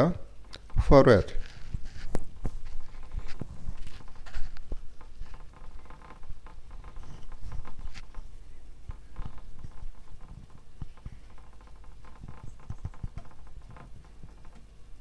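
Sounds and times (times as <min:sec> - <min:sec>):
paintbrush tapping and scratching: 0:00.5 - 0:15.0.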